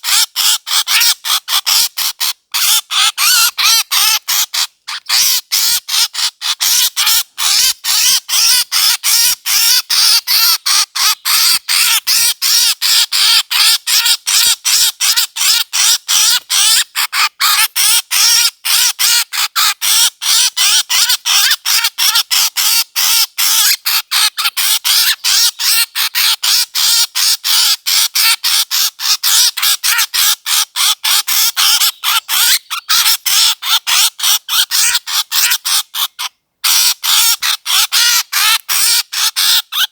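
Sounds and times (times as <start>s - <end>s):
harsh squawking bird calls: 0.0s - 39.9s.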